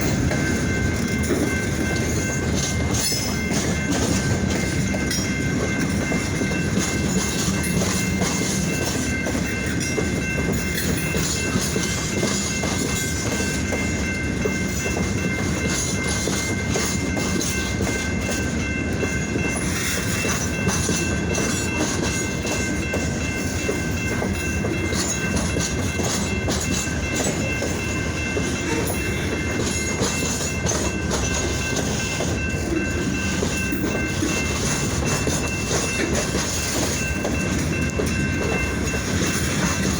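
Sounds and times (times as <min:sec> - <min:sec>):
train wheels clacking: 0:00.0 - 0:39.9.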